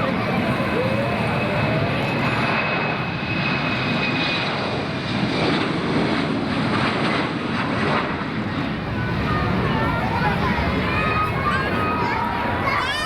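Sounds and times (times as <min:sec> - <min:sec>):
airliner engines rushing: 0:00.0 - 0:13.0.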